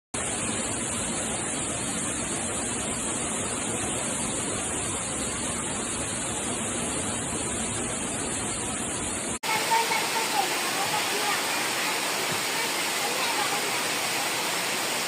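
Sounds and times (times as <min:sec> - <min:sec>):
waterfall rushing: 0:00.3 - 0:15.0.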